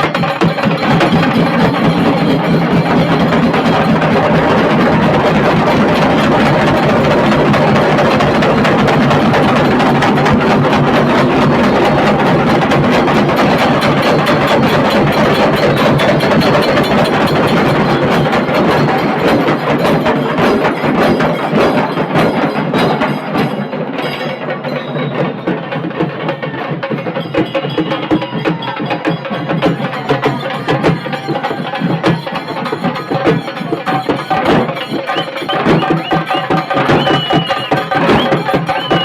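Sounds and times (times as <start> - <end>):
drum band drumming: 0.0 - 39.0.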